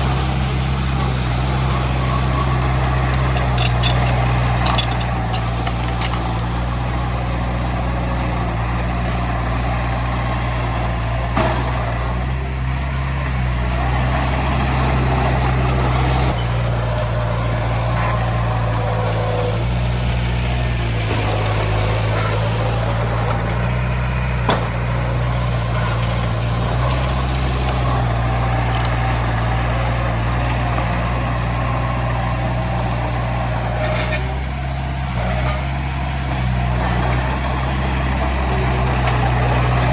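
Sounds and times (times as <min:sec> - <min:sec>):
heavy diesel machinery engine: 0:00.0 - 0:39.9.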